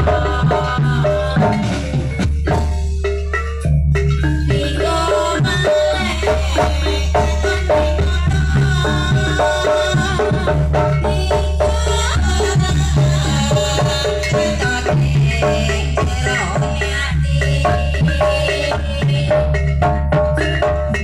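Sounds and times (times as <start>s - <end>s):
drums: 0.0s - 21.0s
metallophone notes: 0.0s - 21.0s
rattling percussion: 0.0s - 21.0s
steady heavy bass: 0.0s - 21.0s.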